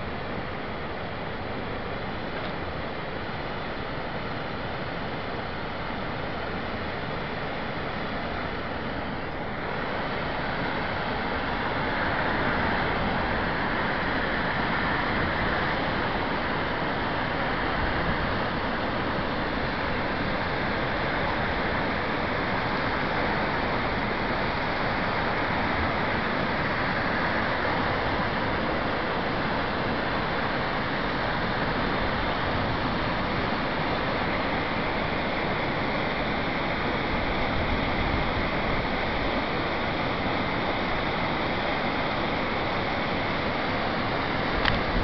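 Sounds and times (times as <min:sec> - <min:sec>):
water rushing over weir: 0:00.0 - 0:45.0.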